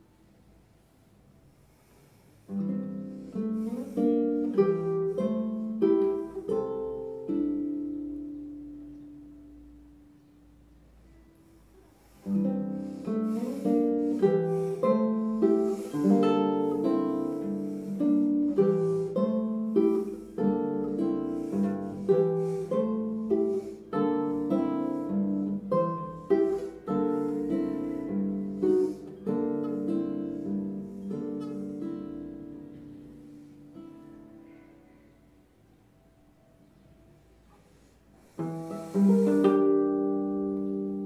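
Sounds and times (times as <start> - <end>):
classical guitar fingerstyle: 0.0 - 41.0.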